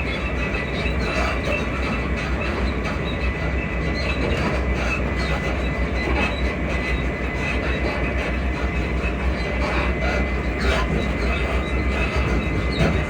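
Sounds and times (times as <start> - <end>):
suspension squeaks and clicks: 0.0 - 13.0
train wheels rumbling on rail: 0.0 - 13.0.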